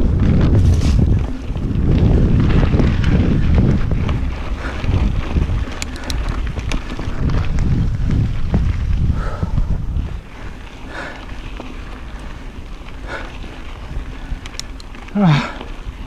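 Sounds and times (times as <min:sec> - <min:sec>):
bike rattling and clicking: 0:00.0 - 0:16.0
wind buffeting microphone: 0:00.0 - 0:16.0.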